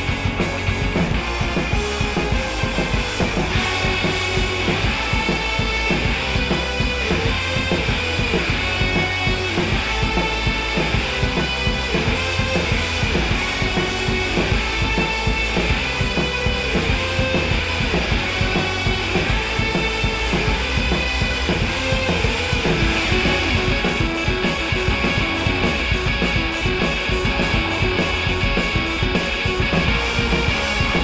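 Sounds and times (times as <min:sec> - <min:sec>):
rock music with drums and guitar: 0:00.0 - 0:31.0.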